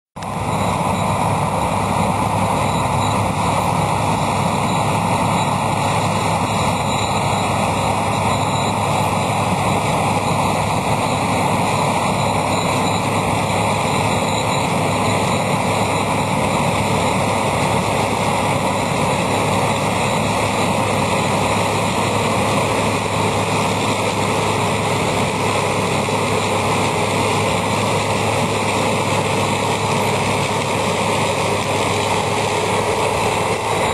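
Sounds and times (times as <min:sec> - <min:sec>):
combine harvester engine hum: 0:00.2 - 0:33.9
constant rushing noise: 0:00.2 - 0:33.9.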